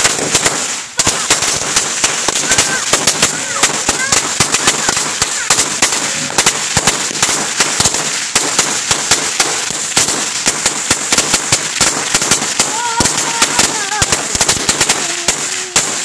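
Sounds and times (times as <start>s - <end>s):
firecrackers banging: 0.0s - 16.0s.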